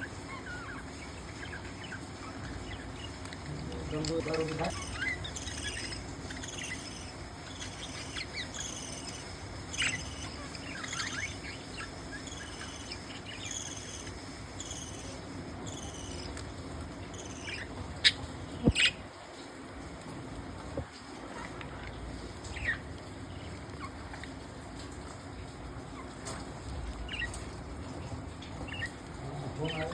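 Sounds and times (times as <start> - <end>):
budgies chirping and warbling: 0.0 - 16.4, 17.0 - 19.0, 21.2 - 24.4, 25.9 - 29.9
low steady hum: 0.0 - 29.9.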